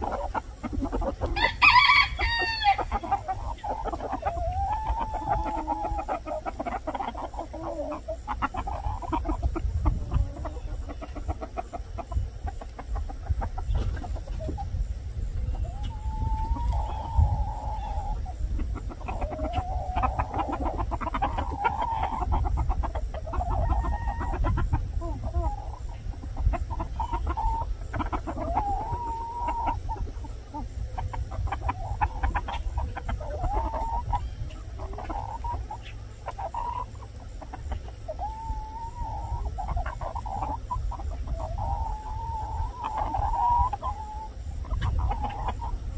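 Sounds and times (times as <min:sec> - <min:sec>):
chickens clucking: 0:00.0 - 0:45.9
drawn-out chicken calls: 0:00.0 - 0:45.9.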